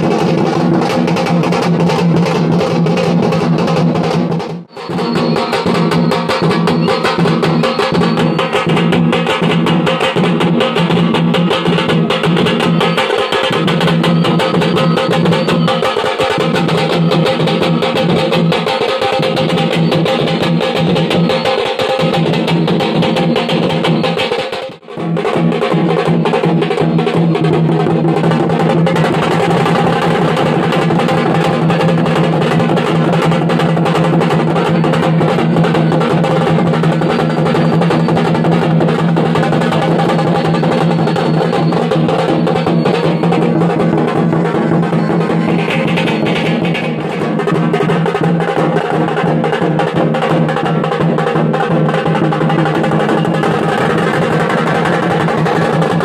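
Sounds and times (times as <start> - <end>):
music with fast drumming: 0.0 - 56.0.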